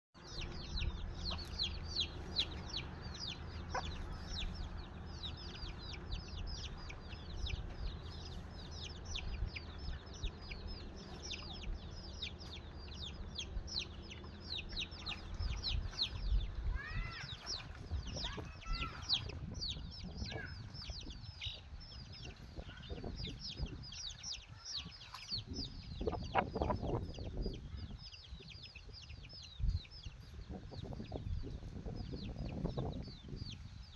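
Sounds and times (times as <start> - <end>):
chickens clucking: 0.2 - 33.8
chicks peeping: 0.2 - 33.9.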